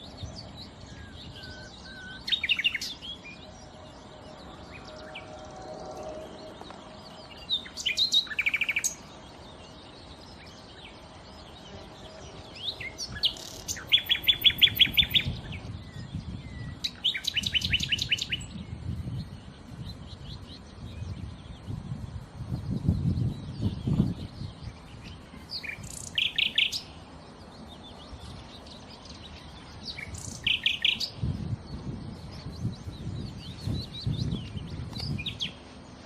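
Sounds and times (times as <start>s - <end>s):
nightingale singing: 0.0s - 36.0s.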